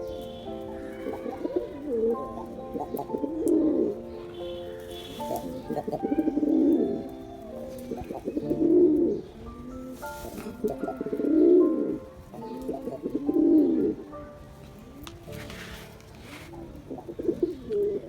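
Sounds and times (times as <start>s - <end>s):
background music: 0.0s - 18.0s
pigeon cooing: 0.0s - 18.0s.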